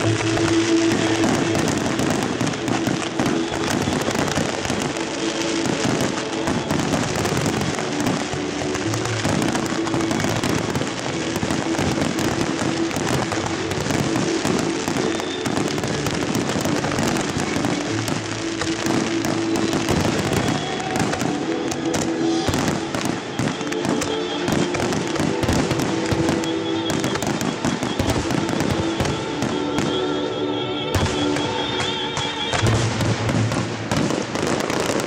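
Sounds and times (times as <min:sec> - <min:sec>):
fireworks bangs and crackle: 0:00.0 - 0:35.0
music playing: 0:00.0 - 0:35.0.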